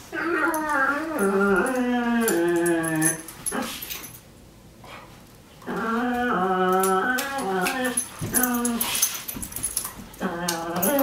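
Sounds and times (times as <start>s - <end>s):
dog moaning and whining: 0.0s - 4.2s, 5.6s - 11.0s.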